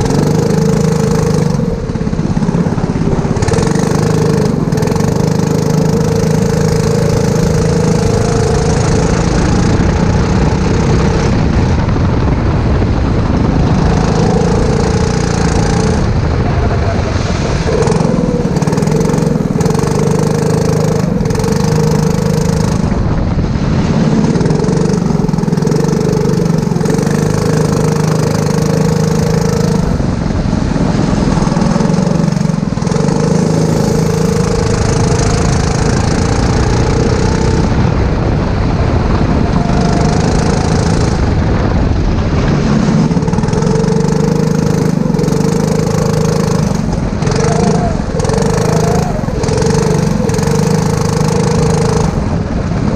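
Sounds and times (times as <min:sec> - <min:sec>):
go-kart engine running hard: 0:00.0 - 0:52.9.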